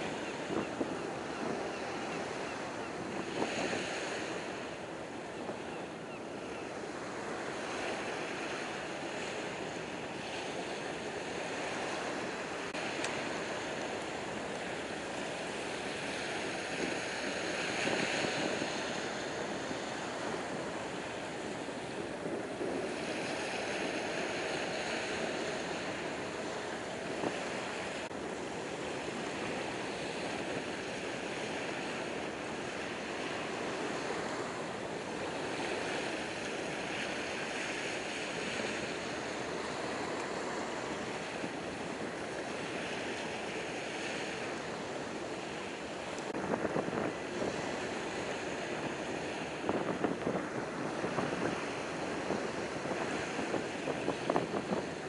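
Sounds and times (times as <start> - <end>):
small waves washing on shore: 0.0 - 55.0
wind on microphone: 0.0 - 55.0.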